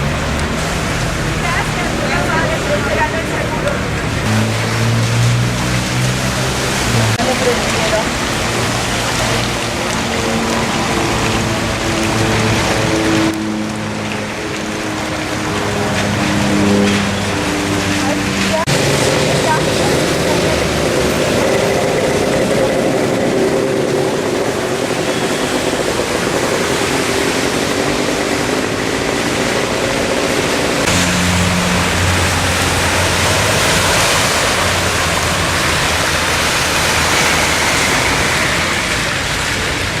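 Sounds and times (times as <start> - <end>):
floodwater rushing: 0.0 - 40.0
vehicle engines running: 0.0 - 40.0.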